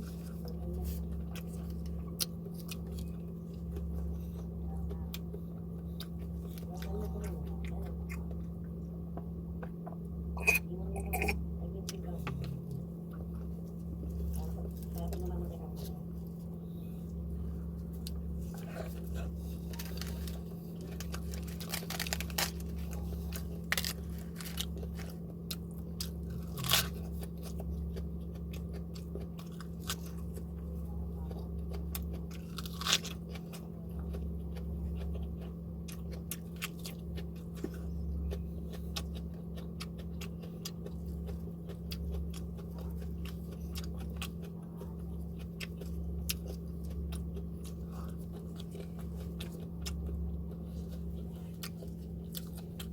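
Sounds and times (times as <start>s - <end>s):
chewing and crunching food: 0.0s - 52.9s
low hum: 0.0s - 52.9s.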